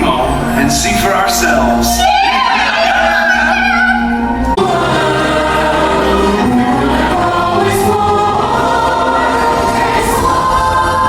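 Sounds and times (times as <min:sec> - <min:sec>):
choir singing: 0:00.0 - 0:11.0
stage show music: 0:00.0 - 0:11.0.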